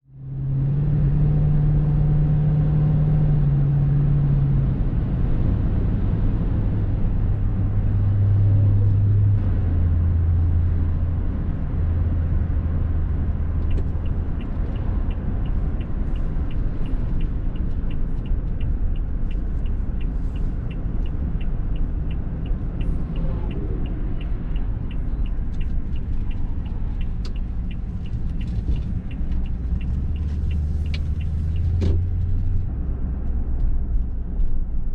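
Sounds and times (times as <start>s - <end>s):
car driving rumble: 0.0s - 34.9s.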